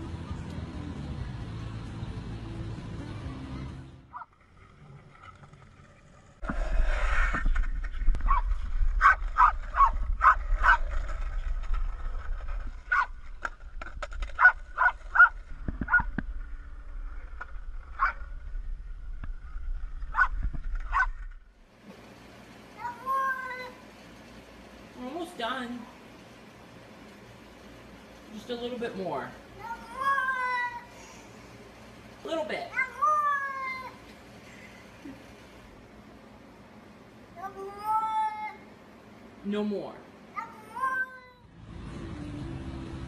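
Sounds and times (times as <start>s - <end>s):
low steady rumble: 0.0s - 39.4s.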